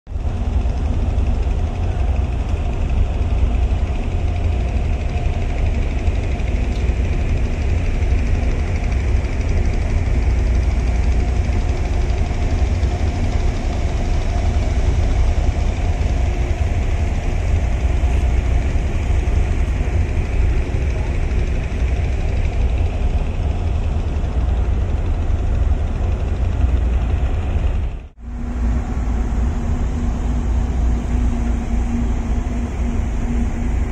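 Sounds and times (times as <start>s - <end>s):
engine low rumble: 0.1s - 33.9s.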